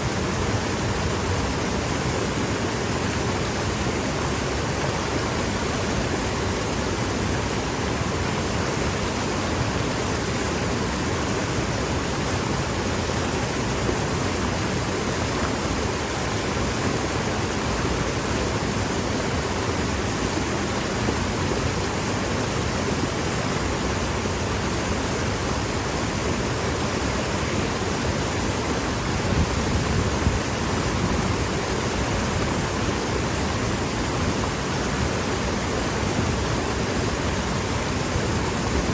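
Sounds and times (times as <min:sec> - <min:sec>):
stream rushing over boulders: 0:00.0 - 0:38.9.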